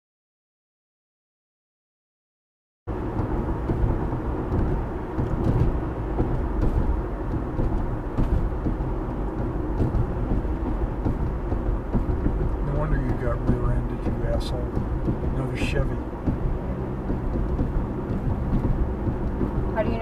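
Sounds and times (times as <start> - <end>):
car road and engine rumble: 2.9 - 20.0.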